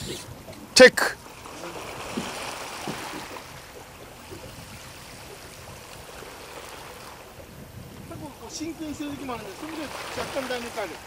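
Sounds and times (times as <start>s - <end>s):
water lapping around a boat: 0.0s - 11.0s.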